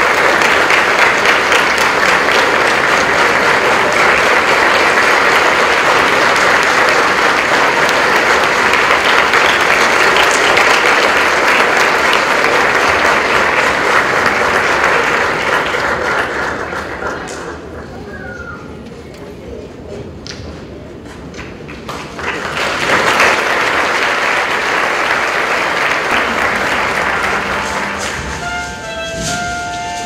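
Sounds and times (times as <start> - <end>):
audience applauding: 0.0 - 18.0, 21.7 - 28.9.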